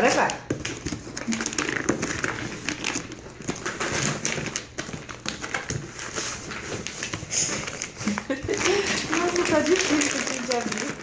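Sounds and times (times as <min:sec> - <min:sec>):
bag and cardboard box rustling: 0:00.0 - 0:11.0.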